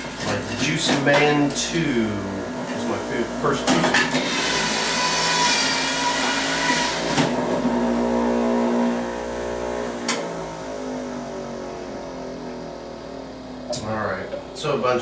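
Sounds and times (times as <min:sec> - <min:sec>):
juicer motor whining: 0:01.5 - 0:14.1.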